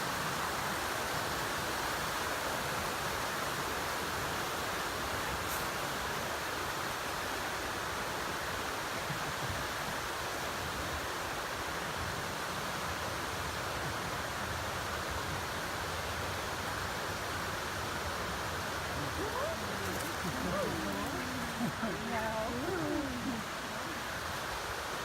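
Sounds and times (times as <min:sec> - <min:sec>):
water pouring down a waterfall: 0:00.0 - 0:25.0.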